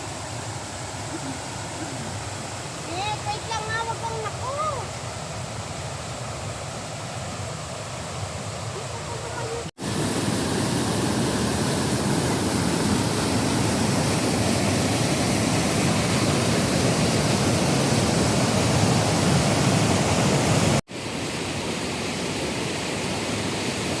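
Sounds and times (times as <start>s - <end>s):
falling water roaring: 0.0s - 24.0s.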